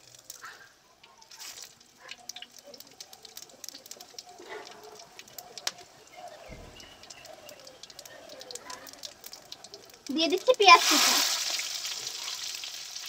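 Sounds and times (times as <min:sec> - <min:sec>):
oil popping and crackling: 0:00.0 - 0:13.0
spices sizzling in hot oil: 0:00.0 - 0:13.0.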